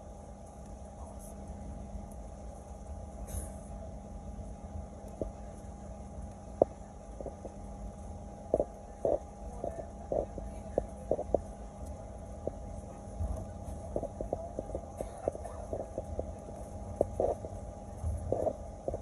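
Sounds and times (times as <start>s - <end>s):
airliner engine hum and rumble: 0.0s - 19.0s.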